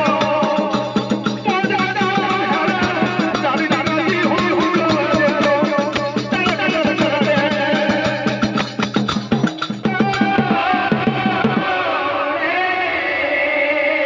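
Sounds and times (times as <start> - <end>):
music with fast percussion beat: 0.0 - 11.8.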